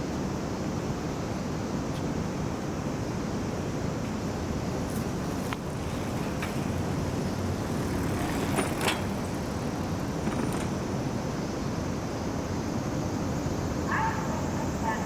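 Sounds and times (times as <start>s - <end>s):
road traffic passing cars: 0.0s - 15.0s.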